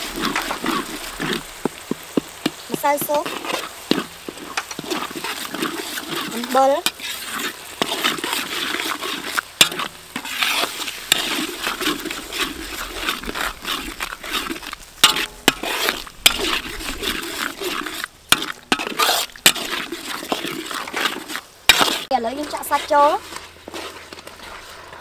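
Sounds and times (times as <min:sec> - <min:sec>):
curry paste sizzling in oil: 0:00.0 - 0:25.0
metal ladle scraping wok: 0:00.0 - 0:25.0.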